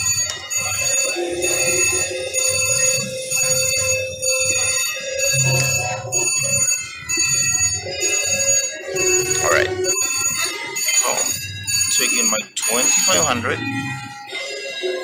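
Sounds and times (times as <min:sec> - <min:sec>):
slot machine reels spinning: 0:00.0 - 0:14.1
casino crowd din: 0:00.0 - 0:15.0
slot machine bells and chimes: 0:00.0 - 0:15.0.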